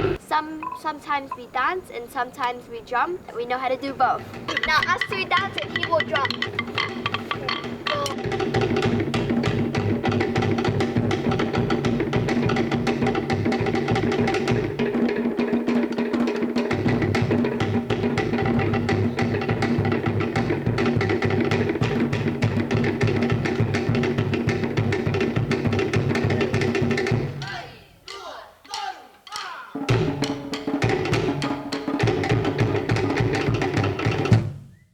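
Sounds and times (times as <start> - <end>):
wooden slit drums: 0.0 - 1.5, 3.9 - 34.7.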